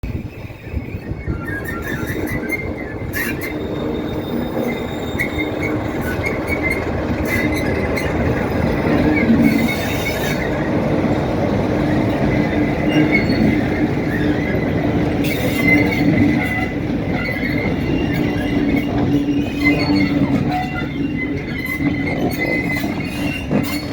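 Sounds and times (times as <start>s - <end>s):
diesel locomotive engine running: 0.0s - 23.9s
locomotive rumbling on rails: 0.0s - 23.9s.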